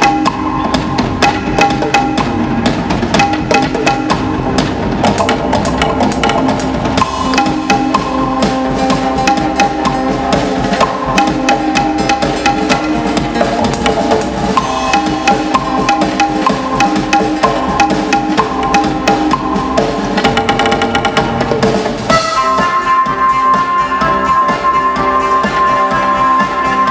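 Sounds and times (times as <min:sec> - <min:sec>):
held melodic notes: 0:00.0 - 0:26.9
quick percussion beat: 0:00.0 - 0:26.9.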